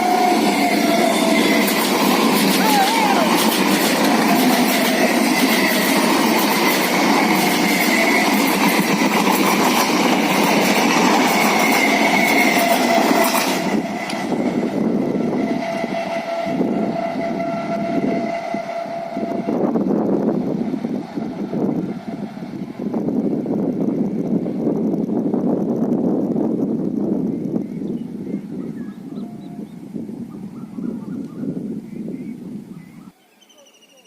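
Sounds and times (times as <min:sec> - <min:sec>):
electric train running past: 0:00.0 - 0:32.8.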